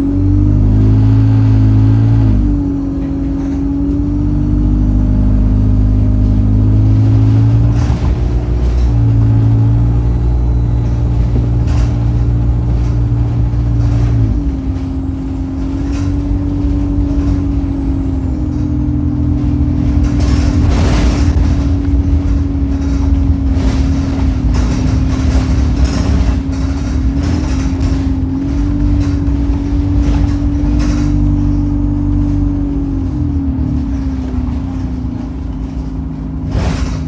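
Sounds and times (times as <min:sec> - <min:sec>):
bus diesel engine running: 0:00.0 - 0:37.0
knocks and rattles: 0:00.0 - 0:37.0.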